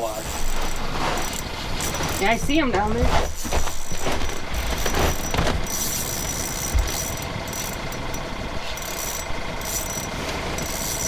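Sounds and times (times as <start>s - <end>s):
mechanical hum with faint whine: 0.0s - 11.0s.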